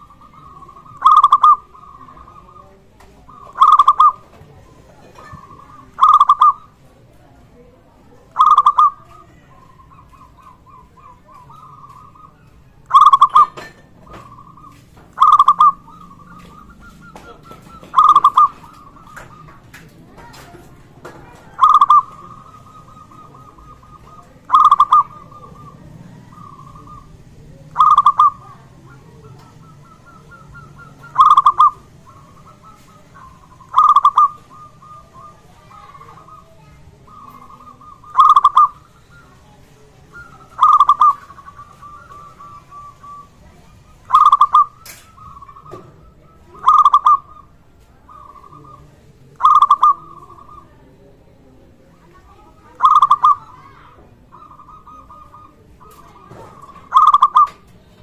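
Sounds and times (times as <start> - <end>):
dove cooing: 0.0 - 58.0
soft rolling bird trills: 0.0 - 58.0.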